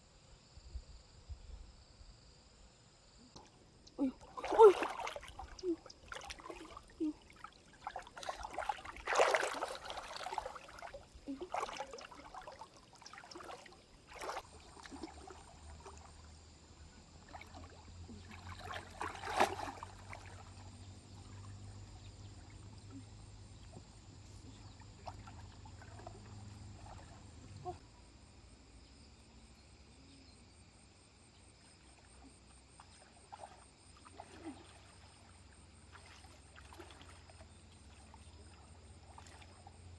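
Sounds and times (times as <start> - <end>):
stream water trickling: 3.4 - 29.6, 31.4 - 39.9.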